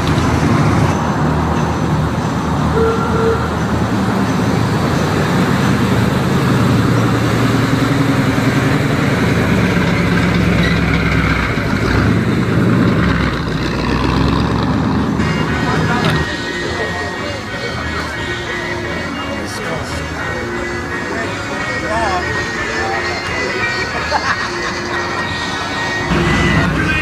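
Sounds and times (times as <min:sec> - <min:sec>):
car engines idling: 0:00.0 - 0:27.0.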